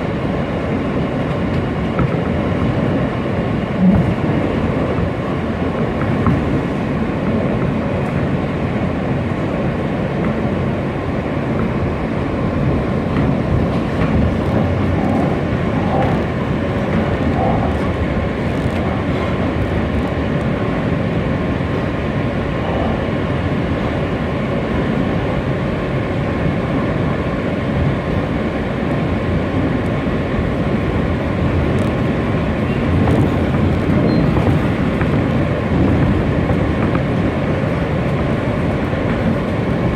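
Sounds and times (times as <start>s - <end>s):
subway car wheels rumbling: 0.0s - 39.9s.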